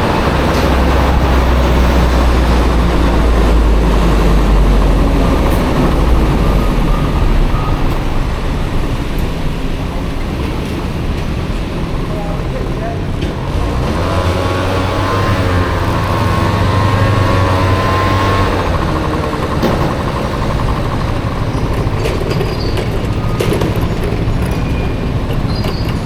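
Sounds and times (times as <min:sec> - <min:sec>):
scooter riding: 0:00.0 - 0:26.0
traffic noise: 0:00.0 - 0:26.0.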